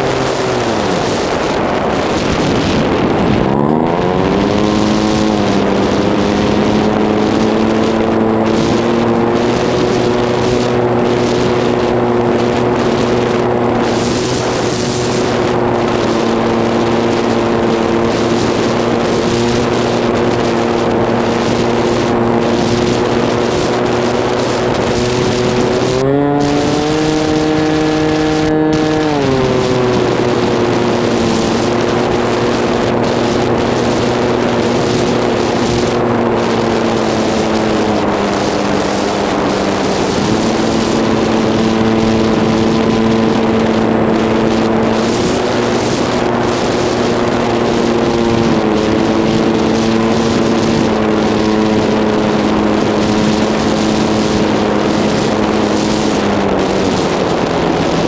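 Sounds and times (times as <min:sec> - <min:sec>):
model plane motor humming: 0:00.0 - 0:58.0.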